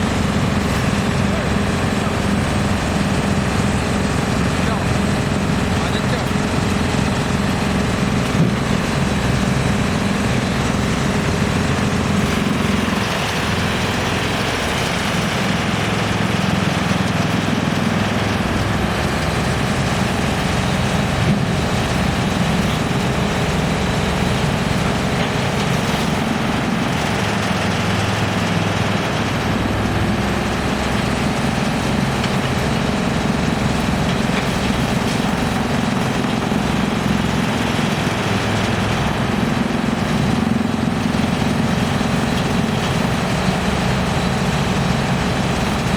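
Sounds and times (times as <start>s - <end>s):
wood chipper running: 0.0s - 45.9s.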